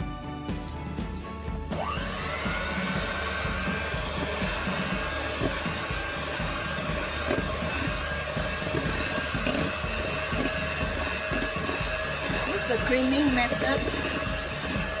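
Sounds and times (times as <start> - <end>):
electric mixer running: 1.7 - 15.0.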